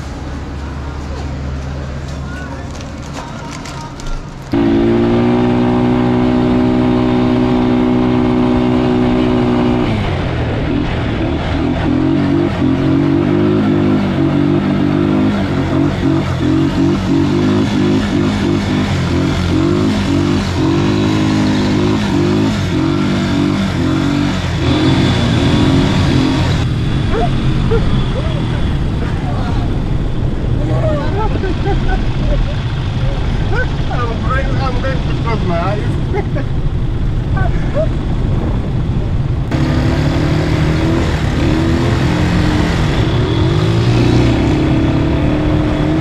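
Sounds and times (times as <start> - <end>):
quad bike engine revving: 4.5 - 36.2, 39.5 - 46.0.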